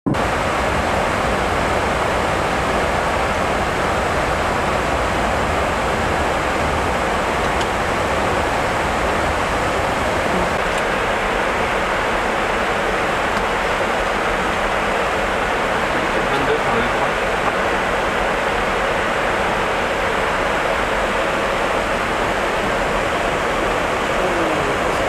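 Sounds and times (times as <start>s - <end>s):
rushing cockpit airflow: 0.1s - 25.0s.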